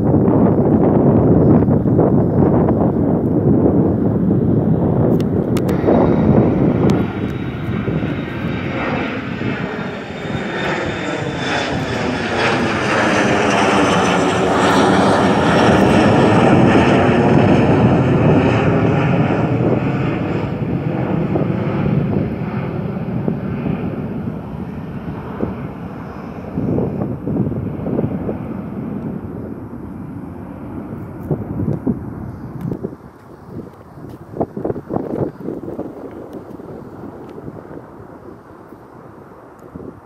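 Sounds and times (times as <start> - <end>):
airliner engines roaring: 0.0 - 40.0.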